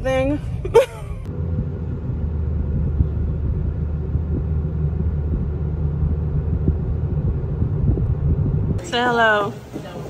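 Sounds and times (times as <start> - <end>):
car rumble inside cabin: 0.0 - 10.0.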